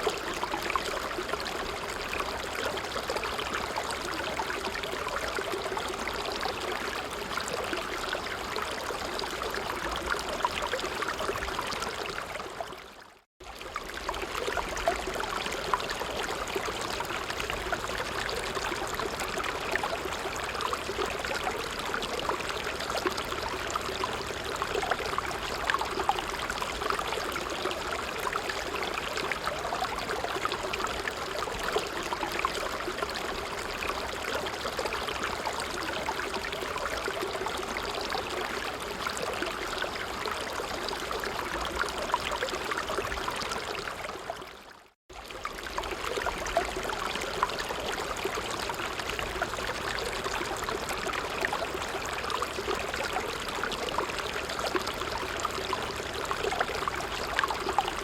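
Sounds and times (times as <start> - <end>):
stream water trickling over stones: 0.0 - 58.0.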